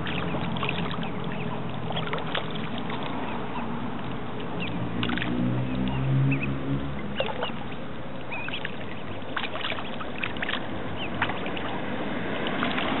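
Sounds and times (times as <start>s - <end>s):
ducklings peeping: 0.0s - 11.8s
small water splashes: 0.0s - 13.0s.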